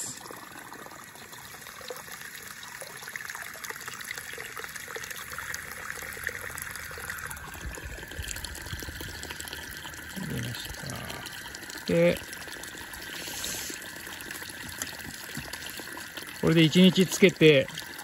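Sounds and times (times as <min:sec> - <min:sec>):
water running and splashing: 0:00.0 - 0:18.0.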